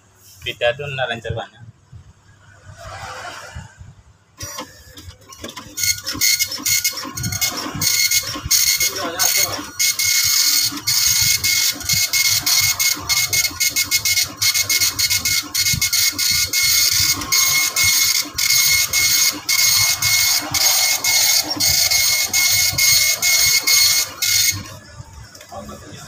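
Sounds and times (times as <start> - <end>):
dot matrix printer buzzing: 4.4 - 25.6.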